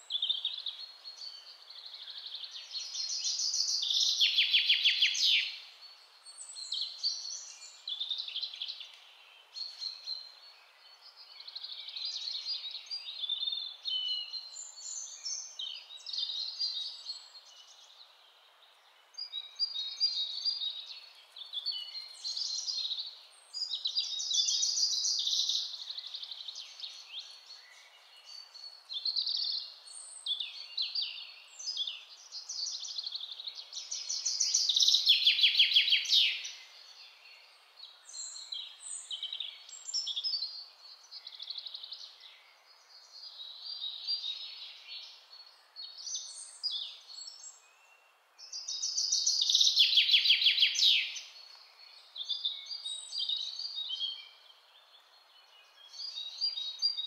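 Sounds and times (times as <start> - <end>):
birds chirping and trilling: 0.0 - 57.0
faint background hiss: 0.0 - 57.0.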